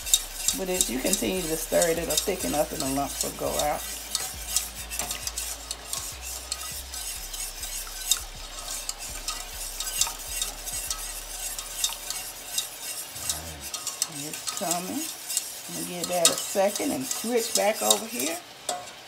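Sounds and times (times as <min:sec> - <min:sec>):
whisk scraping a saucepan: 0:00.0 - 0:19.0.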